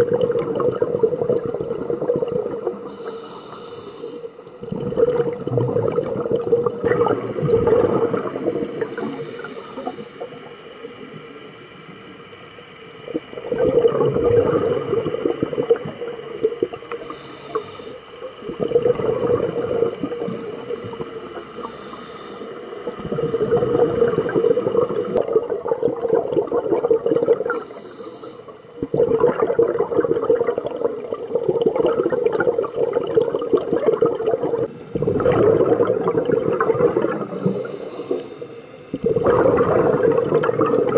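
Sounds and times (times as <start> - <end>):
exhaled bubbles gurgling underwater: 0.0 - 40.9.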